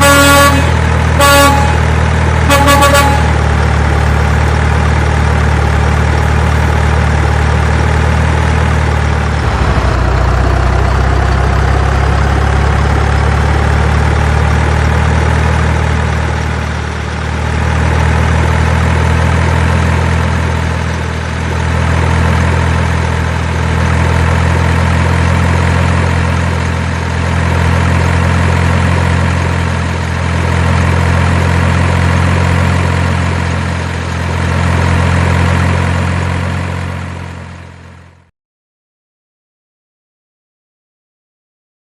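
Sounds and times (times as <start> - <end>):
truck engine idling: 0.0 - 38.2.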